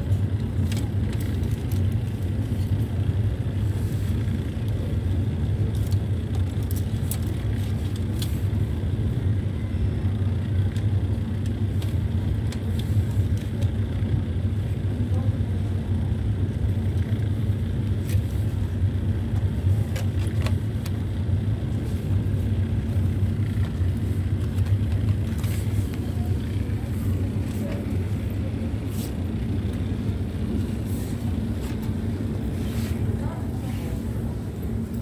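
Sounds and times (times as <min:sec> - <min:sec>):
escalator machinery humming: 0:00.0 - 0:35.0.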